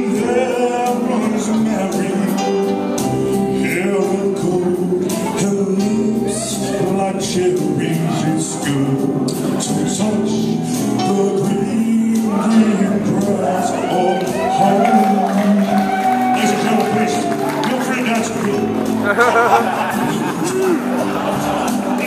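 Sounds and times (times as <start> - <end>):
guitar: 0.0 - 22.0
man singing: 0.0 - 22.0.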